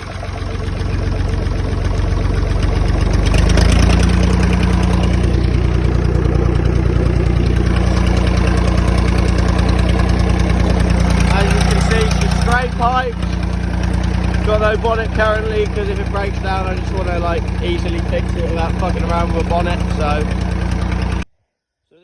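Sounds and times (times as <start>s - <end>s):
tractor diesel engine revving: 0.0s - 21.3s.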